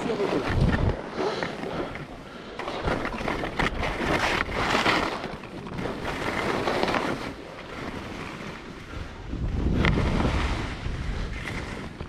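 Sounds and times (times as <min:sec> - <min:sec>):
wind on microphone: 0:00.0 - 0:01.2, 0:02.8 - 0:12.0
skis scraping over snow: 0:00.0 - 0:12.0.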